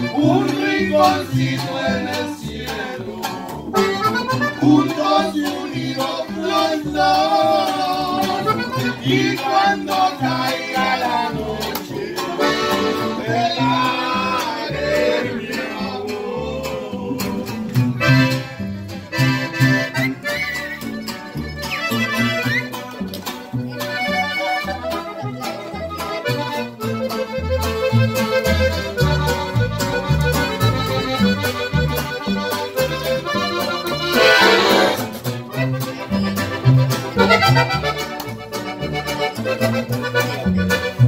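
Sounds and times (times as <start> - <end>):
button accordion melody: 0.0 - 41.0
plucked upright bass: 0.0 - 41.0
strummed acoustic guitar: 0.0 - 41.0.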